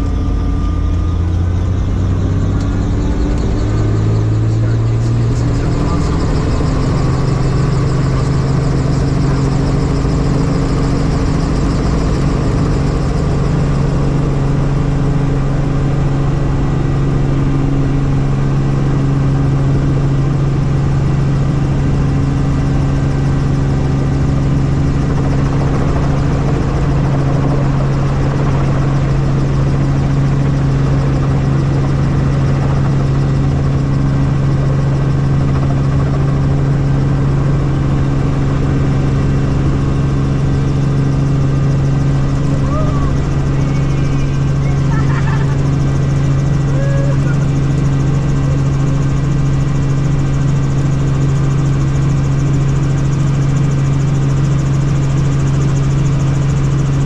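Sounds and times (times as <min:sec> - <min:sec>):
helicopter turbine and rotors: 0:00.0 - 0:57.0.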